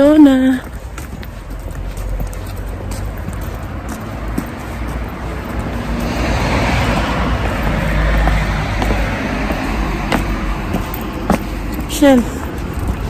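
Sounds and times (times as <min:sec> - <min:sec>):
car passing: 0:00.6 - 0:13.0.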